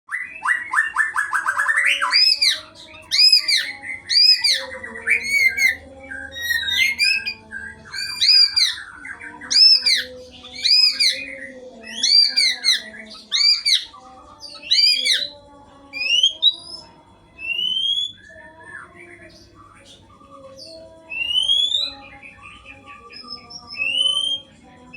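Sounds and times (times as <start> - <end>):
bird singing whistled notes: 0.1 - 15.3, 16.0 - 16.8, 17.4 - 18.4, 20.6 - 22.1, 23.1 - 24.5.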